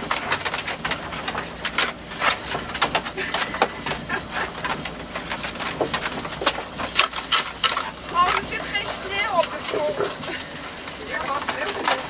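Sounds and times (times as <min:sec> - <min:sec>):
crackles and rattles: 0:00.0 - 0:12.0
van driving over snow: 0:00.0 - 0:12.0.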